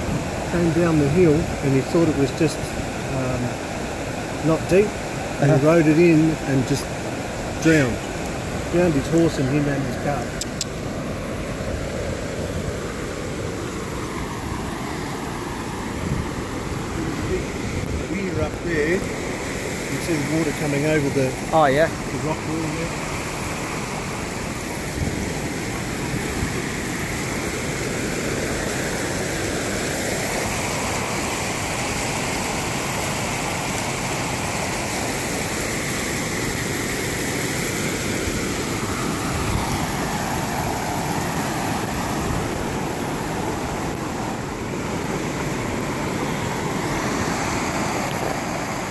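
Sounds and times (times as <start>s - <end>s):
river water rushing over rocks: 0.0s - 48.9s.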